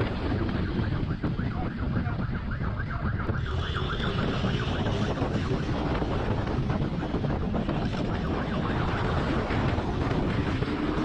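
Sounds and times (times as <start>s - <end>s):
heavy wind noise: 0.0s - 11.0s
police siren yelping: 0.0s - 11.0s.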